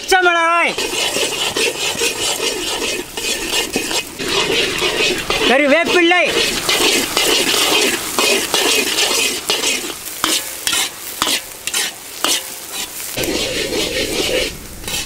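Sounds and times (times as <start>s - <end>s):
food sizzling in hot oil: 0.0s - 15.0s
metal ladle scraping a wok: 0.0s - 15.0s.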